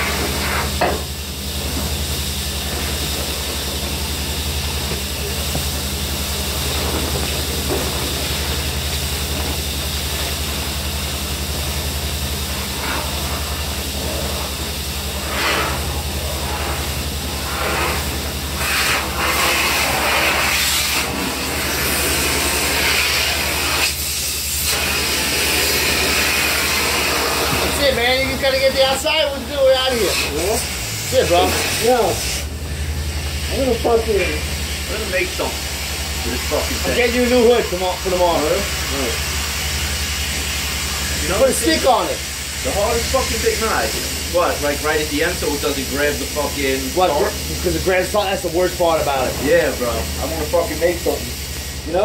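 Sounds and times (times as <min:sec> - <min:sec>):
low machine hum: 0:00.0 - 0:52.0
vacuum hose sucking sand: 0:00.0 - 0:52.0.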